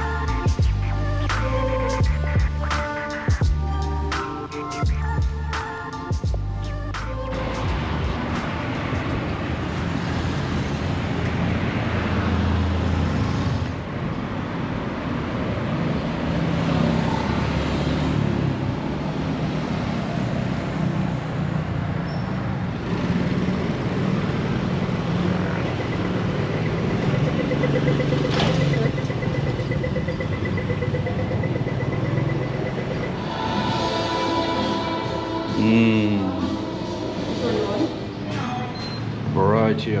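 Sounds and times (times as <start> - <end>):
road noise: 0.0 - 40.0
vehicle engines running: 0.0 - 40.0.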